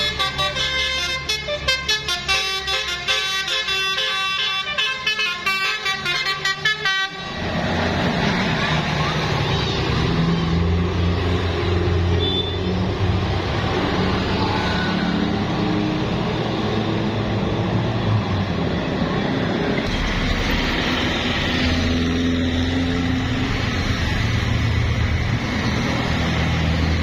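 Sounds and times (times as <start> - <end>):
heavy road traffic: 0.0 - 27.0.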